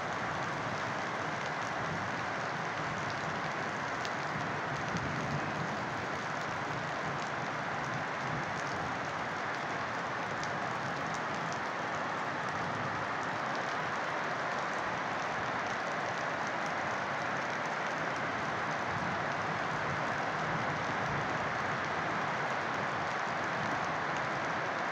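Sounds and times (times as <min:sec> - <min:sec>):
steady rain hiss: 0:00.0 - 0:24.9
raindrop ticks: 0:00.1 - 0:24.9.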